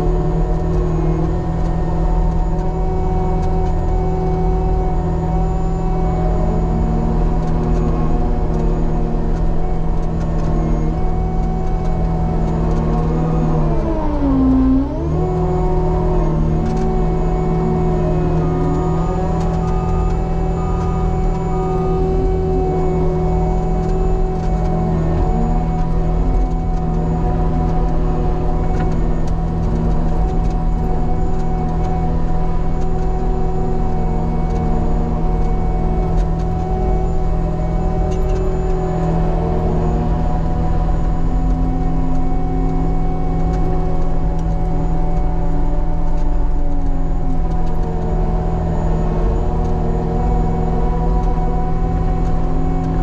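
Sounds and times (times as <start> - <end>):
diesel engine running under load: 0.0 - 53.0
hydraulic whine: 0.0 - 53.0.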